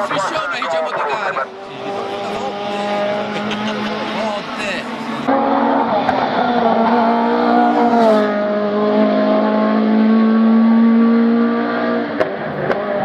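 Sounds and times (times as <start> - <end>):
race car engine driving past: 0.0 - 13.0.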